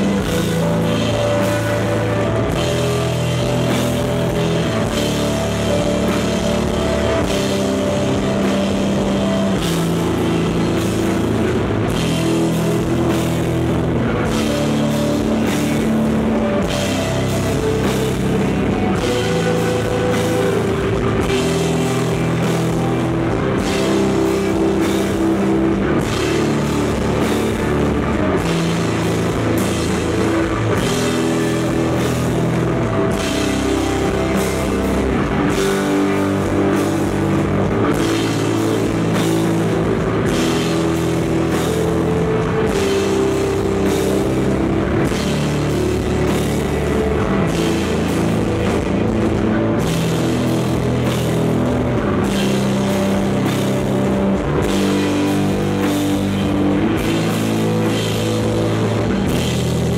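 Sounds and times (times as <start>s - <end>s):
bass guitar: 0.0s - 59.9s
distorted electric guitars: 0.0s - 59.9s
driving drum kit: 0.0s - 59.9s.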